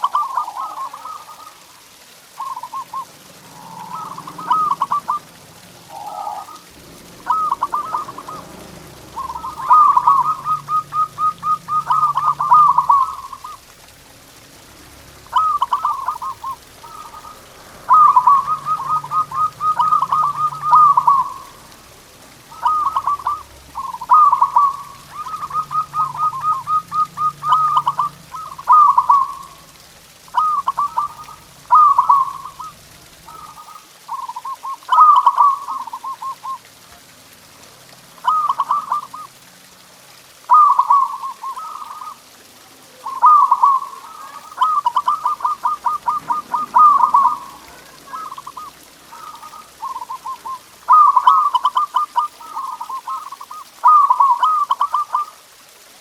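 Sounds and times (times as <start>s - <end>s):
doves cooing: 0.0s - 39.4s, 40.2s - 55.9s.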